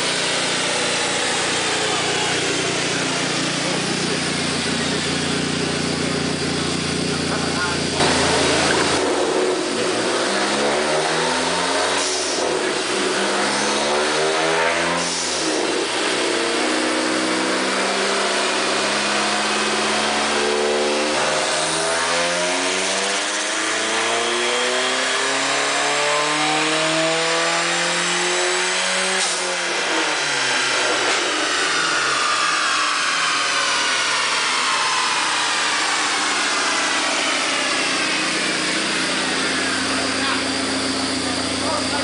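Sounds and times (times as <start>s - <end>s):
car engine revving on dyno: 0.0s - 42.0s.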